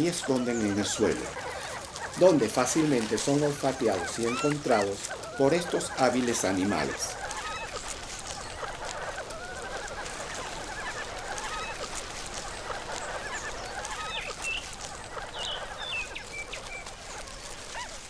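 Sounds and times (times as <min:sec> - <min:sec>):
raucous fowl-like bird calls: 0:00.0 - 0:18.0.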